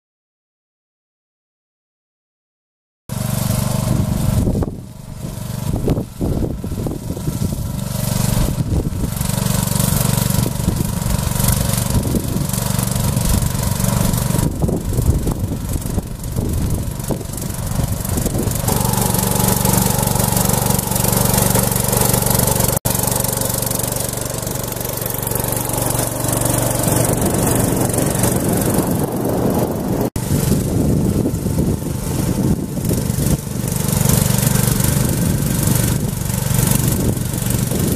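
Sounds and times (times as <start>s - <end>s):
tractor engine droning: 3.1s - 37.9s.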